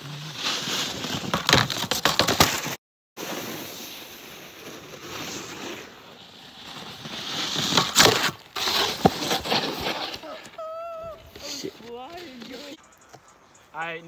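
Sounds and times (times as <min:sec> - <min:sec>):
snowboard scraping over snow: 0:00.0 - 0:12.8
wind: 0:00.0 - 0:14.0.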